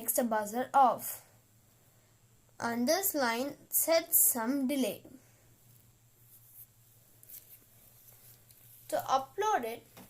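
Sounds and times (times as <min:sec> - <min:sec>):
faint steady low hum: 0:00.0 - 0:10.0.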